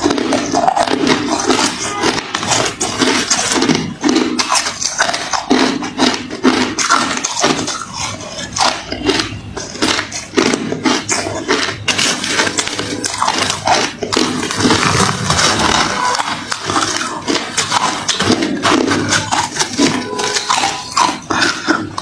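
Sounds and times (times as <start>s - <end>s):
person chewing crunchy ice: 0.0s - 22.0s.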